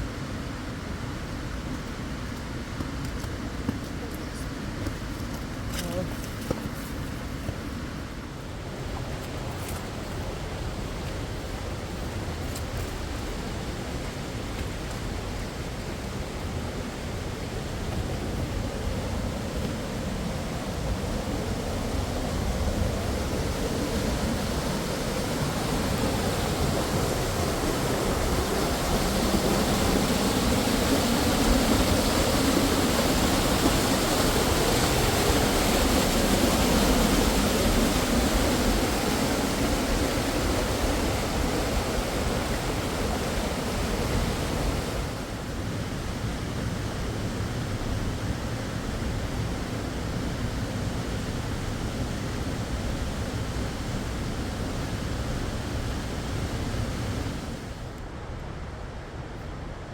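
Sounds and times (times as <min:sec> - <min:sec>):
rushing river water: 0:00.0 - 0:59.8.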